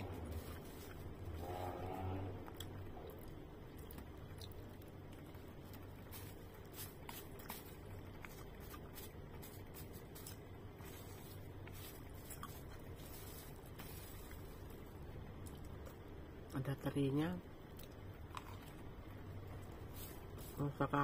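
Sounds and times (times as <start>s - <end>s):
chewing food: 0.0s - 16.1s, 17.7s - 20.4s
steady low hum: 0.0s - 21.0s.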